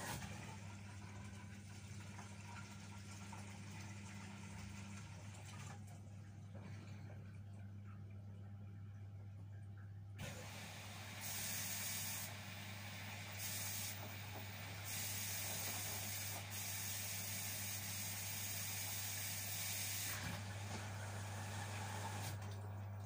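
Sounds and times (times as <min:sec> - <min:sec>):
water spraying into washing machine: 0:00.0 - 0:05.9, 0:10.2 - 0:23.0.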